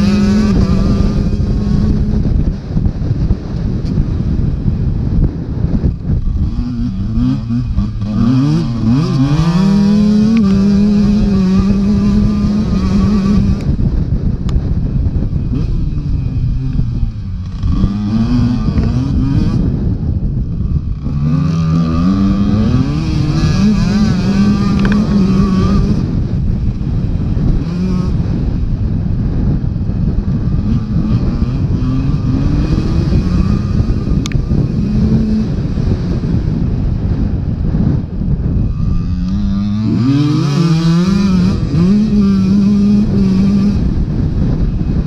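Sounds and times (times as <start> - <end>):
dirt bike engine revving: 0.0 - 45.0
wind on microphone: 0.0 - 45.0.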